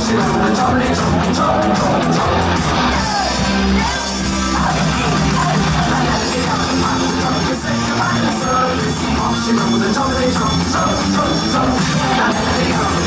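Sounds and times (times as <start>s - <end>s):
folk-punk band playing loudly: 0.0s - 13.0s
sustained bass notes: 0.0s - 13.0s
voices singing: 0.0s - 13.0s.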